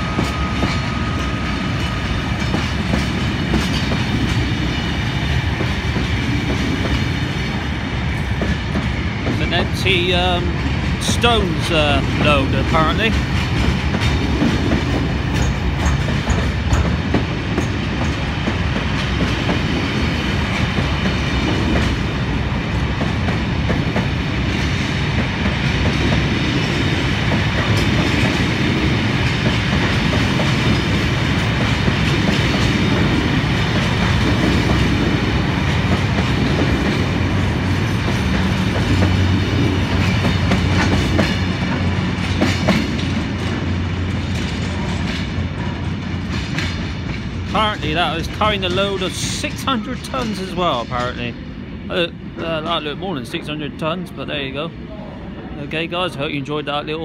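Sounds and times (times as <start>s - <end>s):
wheels clacking over rail joints: 0.0s - 51.4s
freight train rumbling and rattling: 0.0s - 57.0s.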